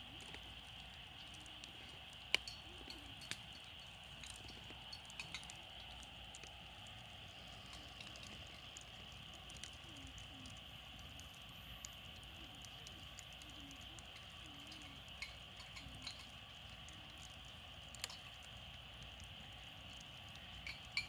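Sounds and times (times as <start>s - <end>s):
campfire crackling: 0.0s - 21.0s
steady background hiss: 0.0s - 21.0s.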